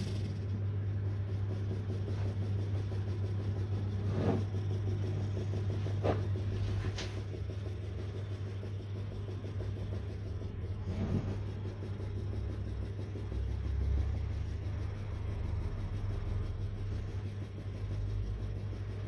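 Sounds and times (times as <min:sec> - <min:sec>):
model steam engine running: 0:00.0 - 0:19.0.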